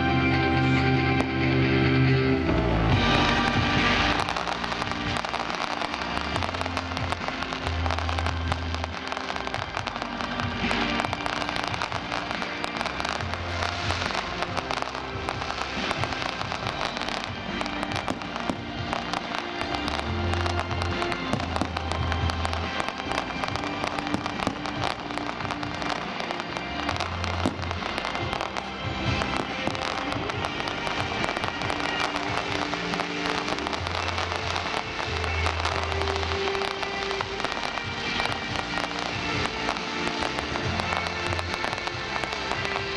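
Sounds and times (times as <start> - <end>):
fireworks crackling and popping: 0.0 - 42.9
held bass notes: 0.0 - 42.9
music playing: 0.0 - 42.9.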